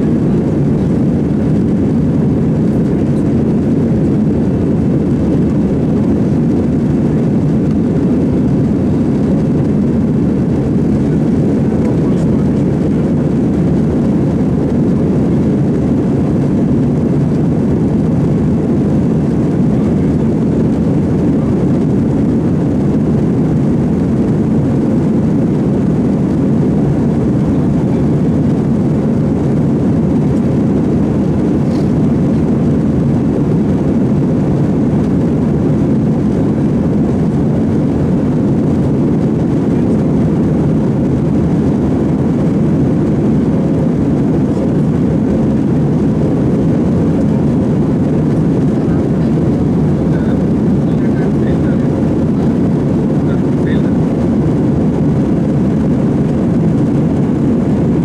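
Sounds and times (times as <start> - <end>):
jet airliner cabin rumble: 0.0 - 58.0.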